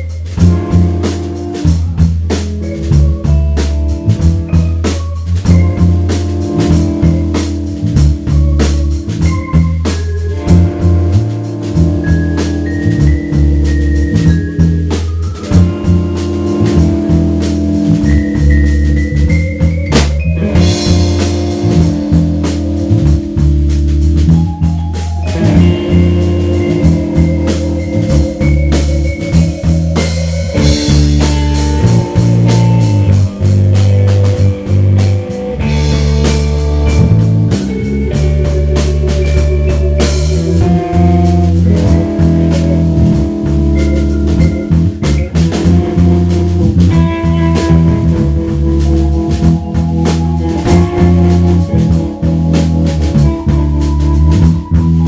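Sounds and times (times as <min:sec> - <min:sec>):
distorted electric guitar: 0:00.0 - 0:55.0
drum hits: 0:00.0 - 0:55.0
electric bass: 0:00.0 - 0:55.0.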